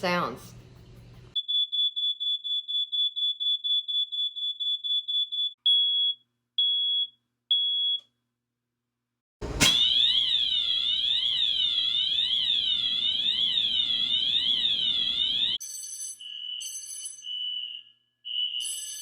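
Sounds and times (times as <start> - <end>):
smoke alarm beeping: 1.3 - 8.1, 9.6 - 19.0
fire alarm sweeping tone: 1.4 - 8.0, 9.6 - 19.0.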